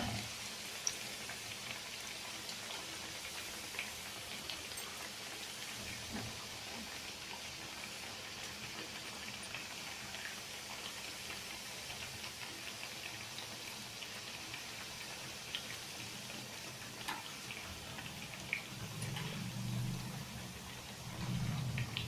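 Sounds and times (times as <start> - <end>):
fritters sizzling in hot oil: 0.0 - 22.0.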